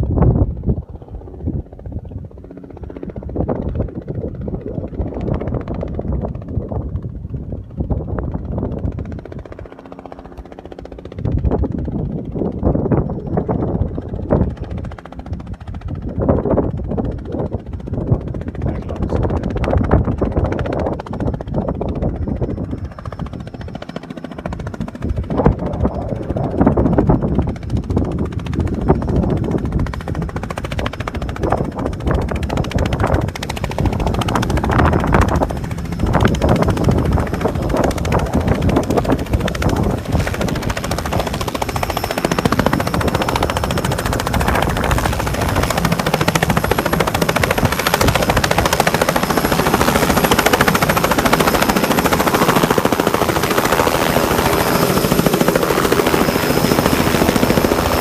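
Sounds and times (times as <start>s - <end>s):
helicopter rotor beat: 0.0s - 58.0s.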